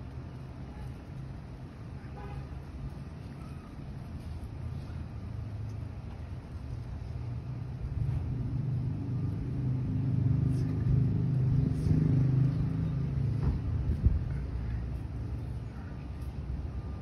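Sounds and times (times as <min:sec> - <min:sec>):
car engine rumble passing: 0:00.0 - 0:17.0.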